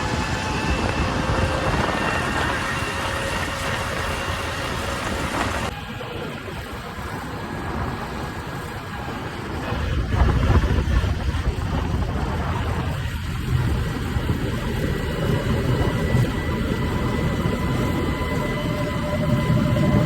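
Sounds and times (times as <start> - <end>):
combine harvester engine rumble: 0.0 - 20.0
road noise: 0.0 - 20.0.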